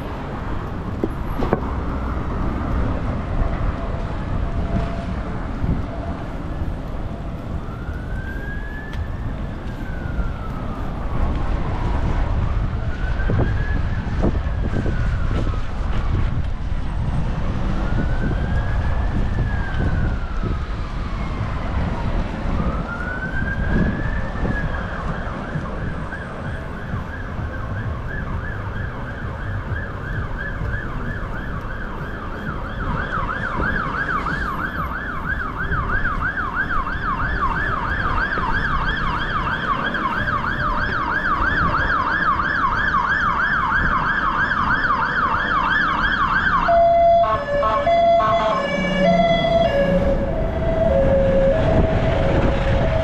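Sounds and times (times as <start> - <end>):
emergency vehicle siren: 0.0 - 53.0
traffic rumble: 0.0 - 53.0.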